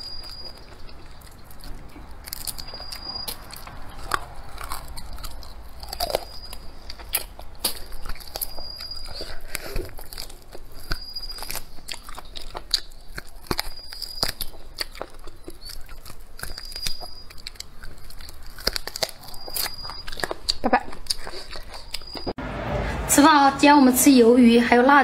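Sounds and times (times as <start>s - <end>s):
person chewing food: 0.0s - 22.4s.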